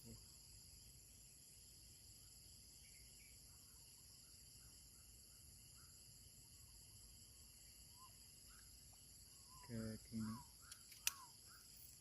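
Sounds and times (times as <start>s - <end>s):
faint insect chorus: 0.0s - 12.0s.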